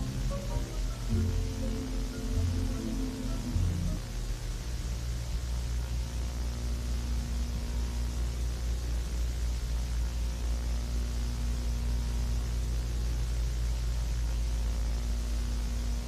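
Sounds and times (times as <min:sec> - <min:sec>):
low electrical hum: 0:00.0 - 0:16.0
tape hiss and static: 0:00.0 - 0:16.0.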